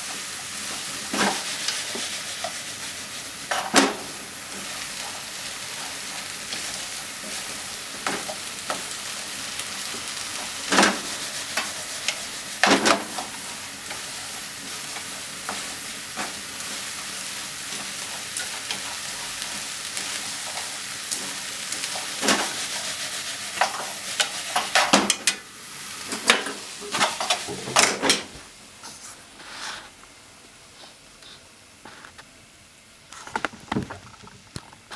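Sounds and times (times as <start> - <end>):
food sizzling in frying pan: 0.0 - 30.0.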